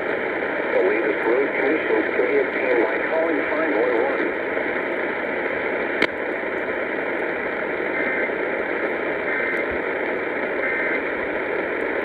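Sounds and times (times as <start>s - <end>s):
faint data bursts: 0.0s - 12.0s
radio static hiss: 0.0s - 12.0s.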